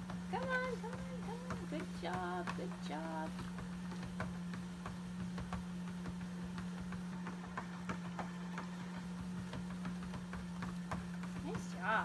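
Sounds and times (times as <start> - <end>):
dog paws clicking on belt: 0.0 - 12.0
treadmill motor hum: 0.0 - 12.0.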